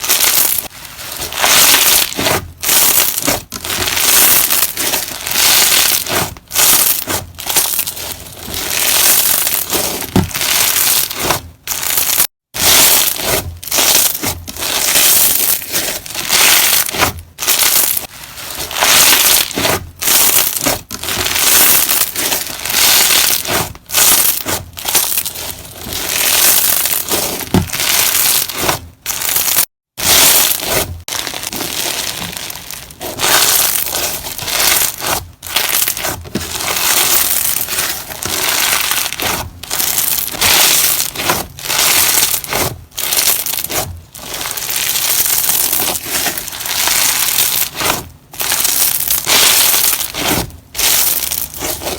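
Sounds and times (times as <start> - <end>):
slime crackling when squeezed: 0.0 - 0.7, 1.3 - 51.9.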